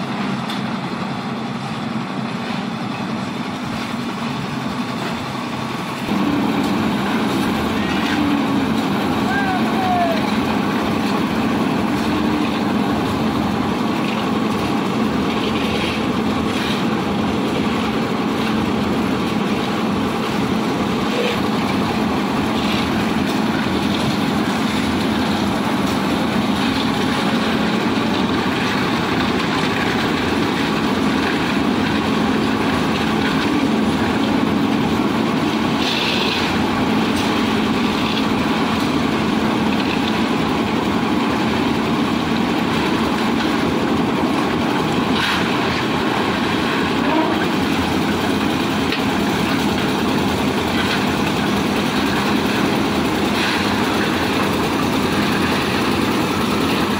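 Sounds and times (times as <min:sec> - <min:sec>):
concrete mixer engine running: 0:00.0 - 0:56.9.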